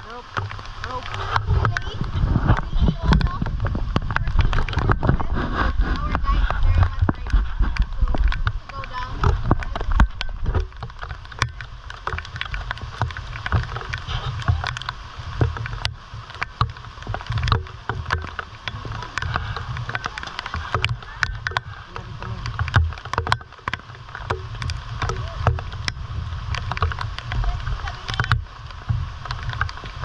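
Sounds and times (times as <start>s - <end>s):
low rumbling: 0.0s - 30.0s
river water rushing: 0.0s - 30.0s
sharp splashes and knocks: 0.0s - 30.0s.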